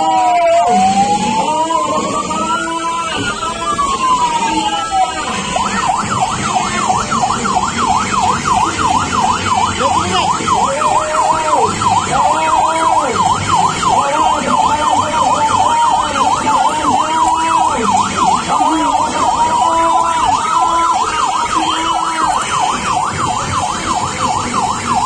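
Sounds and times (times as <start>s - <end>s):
electronic siren yelp: 0.0s - 25.0s
slow low siren tones: 0.0s - 25.0s.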